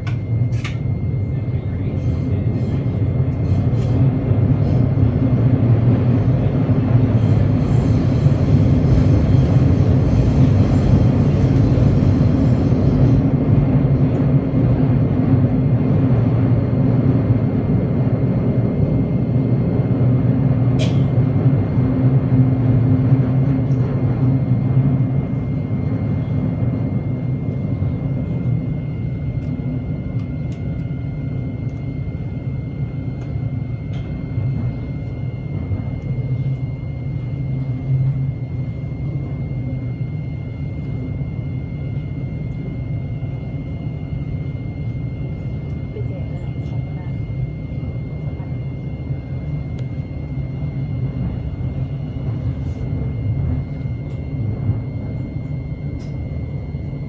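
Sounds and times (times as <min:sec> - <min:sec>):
faint high whine: 0:00.0 - 0:57.0.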